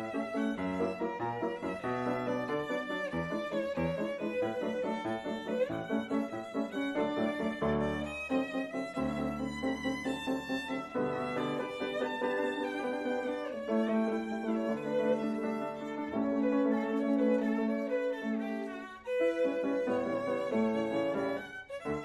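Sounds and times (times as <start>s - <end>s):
violin music: 0.0s - 22.0s.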